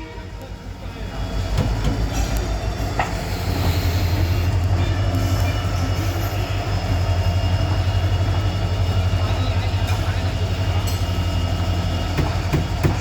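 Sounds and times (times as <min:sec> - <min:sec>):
electric train rumbling past: 0:00.0 - 0:13.0.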